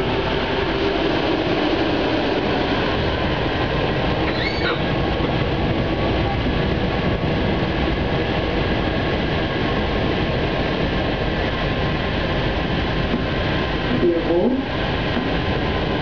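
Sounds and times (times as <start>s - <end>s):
train rolling through a tunnel: 0.0s - 16.0s.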